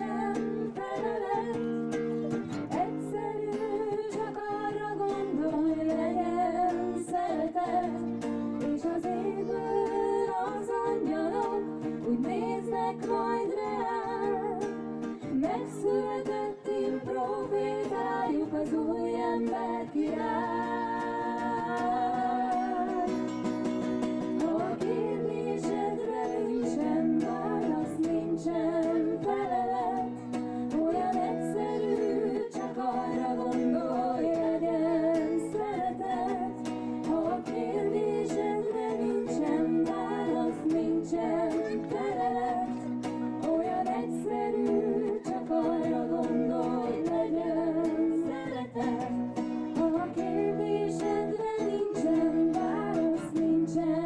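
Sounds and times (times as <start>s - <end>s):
acoustic guitar: 0.0s - 54.0s
women singing harmonies: 0.0s - 54.0s.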